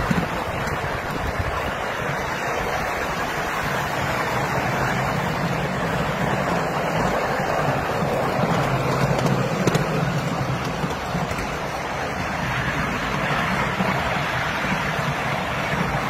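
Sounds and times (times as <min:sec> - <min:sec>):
faint locomotive hum: 0:00.0 - 0:16.0
train wheels rumbling on rails: 0:00.0 - 0:16.0.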